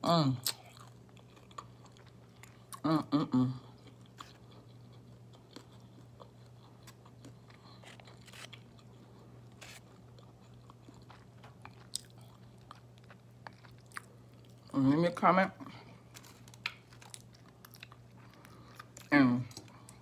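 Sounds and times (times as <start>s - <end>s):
low steady hum: 0.0s - 20.0s
person chewing: 0.4s - 14.8s, 15.6s - 20.0s.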